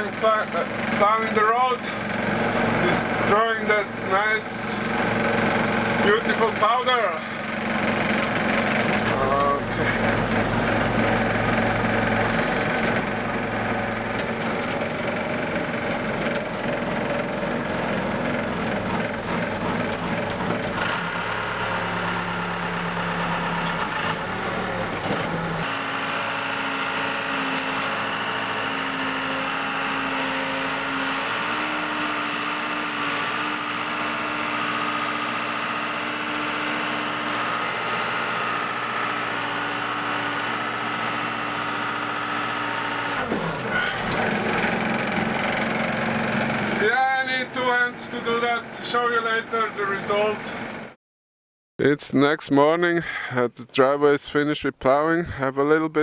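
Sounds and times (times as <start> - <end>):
diesel backhoe engine running: 0.0 - 51.0.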